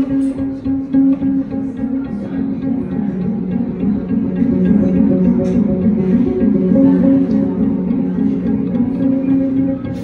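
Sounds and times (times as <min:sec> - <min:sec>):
looped plucked string music: 0:00.0 - 0:10.0
low repeating string note: 0:00.0 - 0:10.0.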